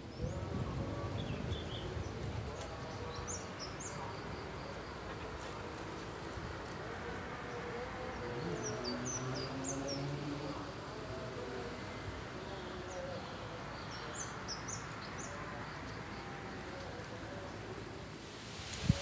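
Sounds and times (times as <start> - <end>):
songbird chirping: 0.0 - 18.2
outdoor background hiss: 0.0 - 19.0.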